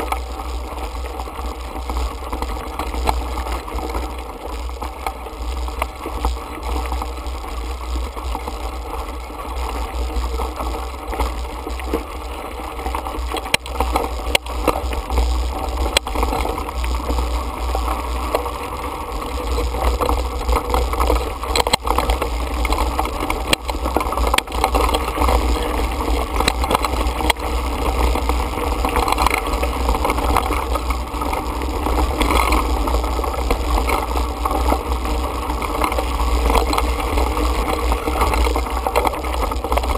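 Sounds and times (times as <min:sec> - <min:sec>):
bike rattling and knocking on stones: 0:00.0 - 0:39.9
wind rumble on microphone: 0:00.0 - 0:39.9.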